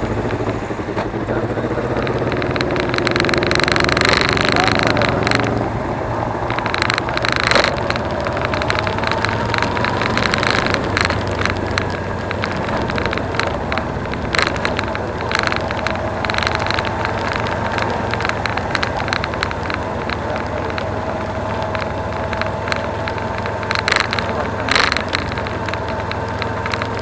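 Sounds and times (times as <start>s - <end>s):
motorcycle engine running: 0.0s - 27.0s
road and wind noise: 0.0s - 27.0s
sharp crackles: 0.0s - 27.0s.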